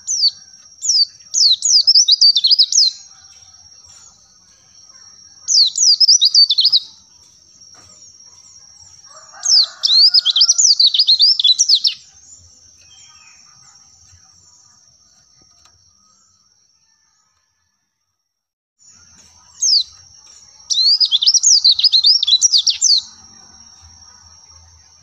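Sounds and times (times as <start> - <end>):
bird twittering song: 0.0 - 16.6, 18.8 - 25.0
faint chirps: 0.0 - 18.2, 18.8 - 25.0.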